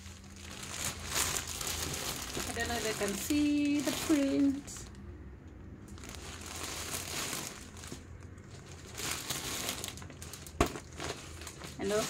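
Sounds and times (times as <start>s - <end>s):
packaging crinkling and rustling: 0.0s - 5.0s, 5.8s - 12.0s.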